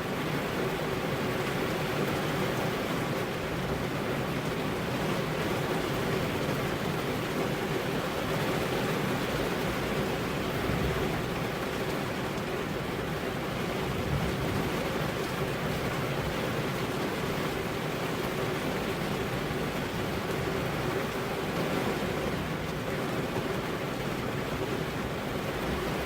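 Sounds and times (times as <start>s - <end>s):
rain on car window: 0.0s - 26.0s.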